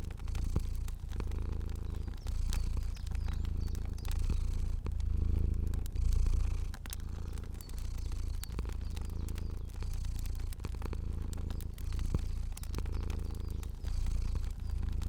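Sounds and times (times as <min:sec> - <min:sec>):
cat purring: 0:00.0 - 0:15.0
fire crackling and popping: 0:00.0 - 0:15.0.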